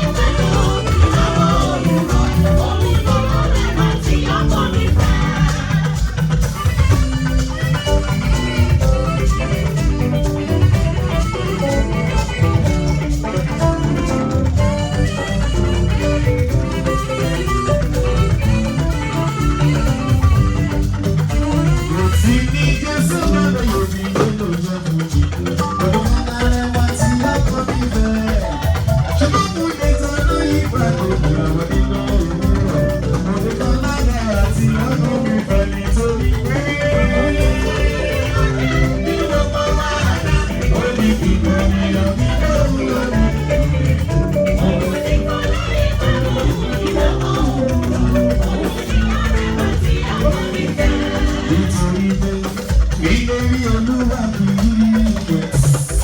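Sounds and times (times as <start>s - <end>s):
live band dance music: 0.0s - 56.0s
shaken percussion: 0.0s - 56.0s.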